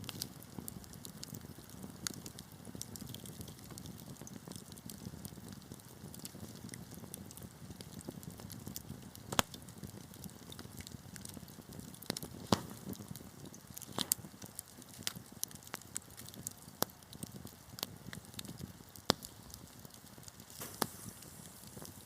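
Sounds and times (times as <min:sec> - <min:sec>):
logs crackling and popping: 0:00.0 - 0:22.0
low rush of flame: 0:00.1 - 0:22.0.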